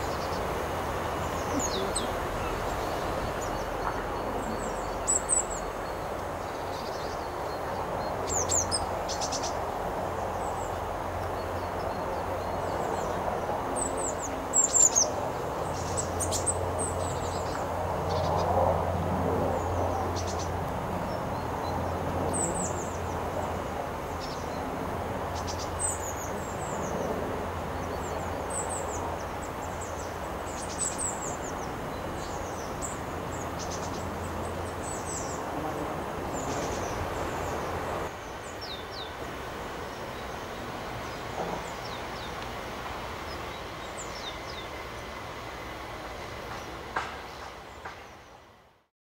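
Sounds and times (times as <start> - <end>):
tits calling: 0.0 - 18.6, 19.5 - 48.4.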